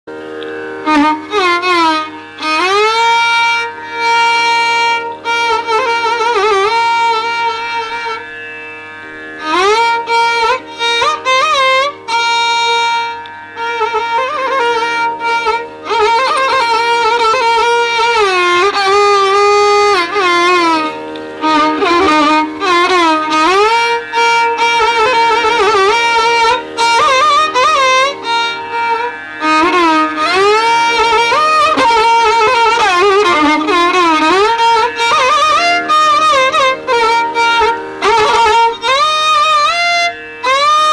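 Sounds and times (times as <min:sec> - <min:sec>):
bowed string melody: 0:00.1 - 0:40.9
steady drone: 0:00.4 - 0:40.9.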